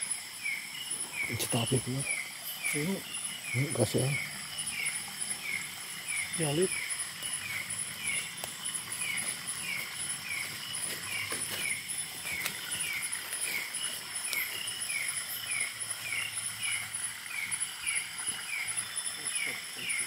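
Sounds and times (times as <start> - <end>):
insect high-pitched trill: 0.0 - 20.0.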